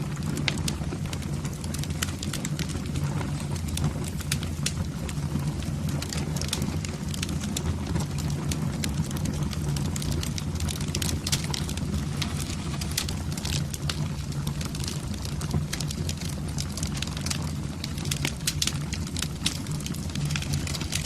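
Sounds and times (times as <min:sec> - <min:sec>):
fire crackling in a fireplace: 0:00.0 - 0:21.0.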